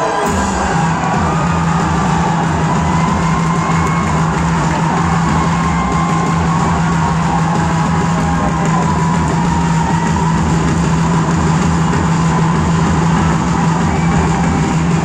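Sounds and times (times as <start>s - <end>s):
music playing: 0.0s - 15.0s
stadium crowd din: 0.0s - 15.0s.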